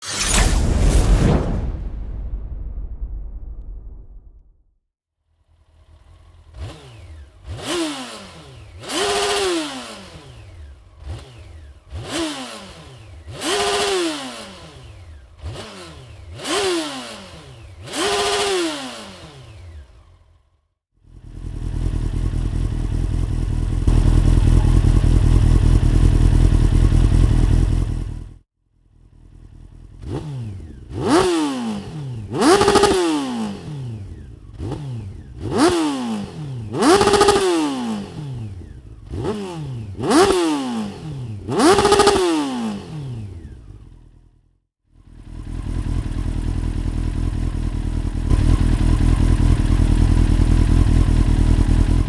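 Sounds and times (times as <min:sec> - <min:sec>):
motorcycle engine revving: 0:05.4 - 0:52.0
loud steady engine roar: 0:05.6 - 0:20.3, 0:21.1 - 0:28.4, 0:29.9 - 0:44.0, 0:45.2 - 0:52.0.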